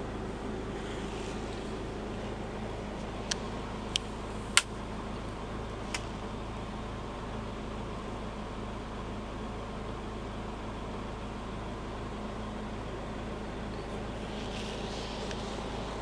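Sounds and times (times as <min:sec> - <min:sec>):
truck engine idling hum: 0:00.0 - 0:16.0.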